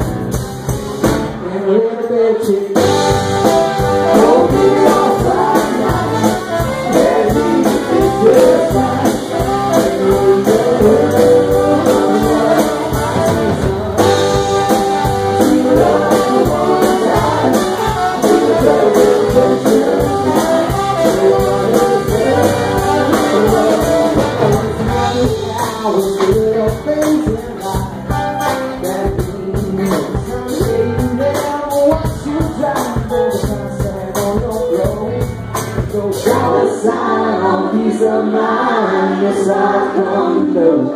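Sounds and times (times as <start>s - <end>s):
steady drum beat: 0.0s - 1.4s, 2.8s - 36.6s
bass: 0.0s - 40.9s
electric guitar: 0.0s - 40.9s
person singing: 1.3s - 40.9s.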